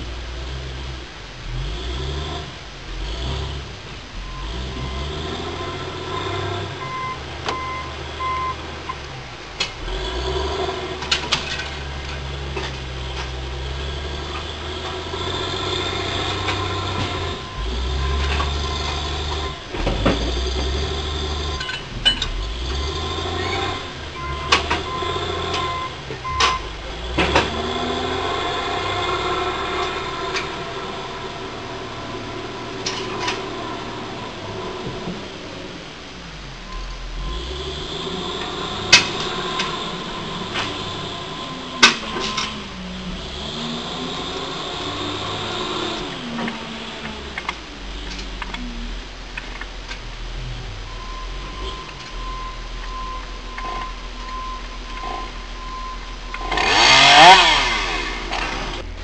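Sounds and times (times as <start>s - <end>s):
excavator diesel engine: 0.0s - 59.0s
beeping: 4.1s - 49.8s, 50.7s - 58.9s.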